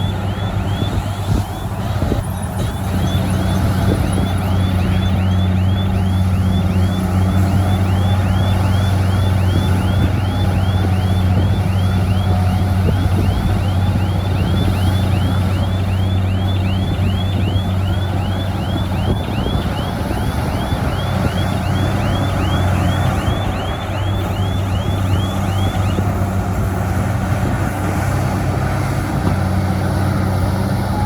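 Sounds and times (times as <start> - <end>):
heavy diesel machinery humming: 0.0 - 31.0.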